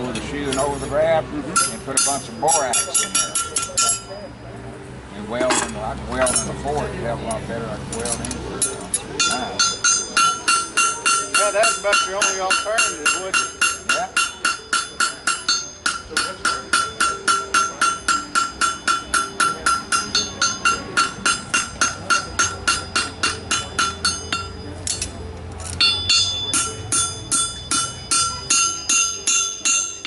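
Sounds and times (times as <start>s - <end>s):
hammer striking horseshoe on anvil: 1.6s - 4.2s, 8.0s - 30.0s.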